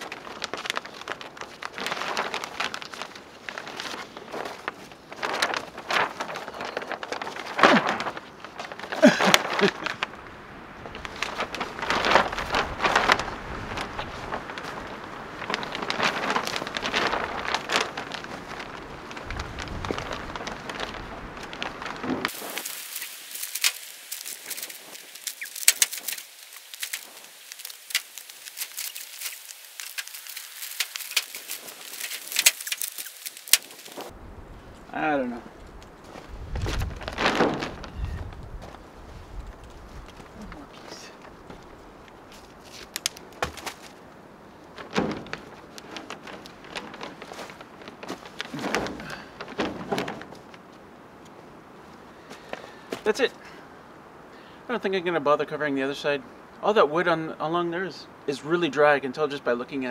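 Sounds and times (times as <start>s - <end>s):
plastic sheeting crinkling: 0.0s - 53.4s.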